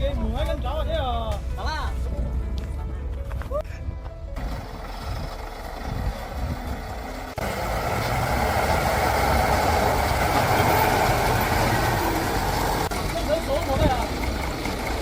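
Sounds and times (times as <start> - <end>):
heavy truck engine running: 1.4 - 15.0.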